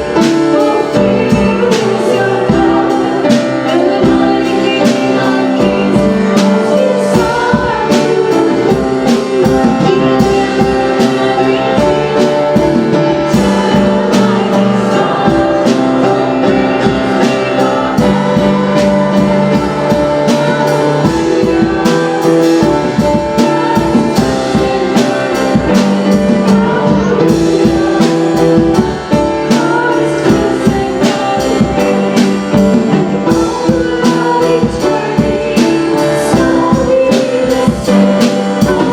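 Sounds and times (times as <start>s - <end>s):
band playing worship music: 0.0s - 38.9s
person singing: 0.0s - 38.9s.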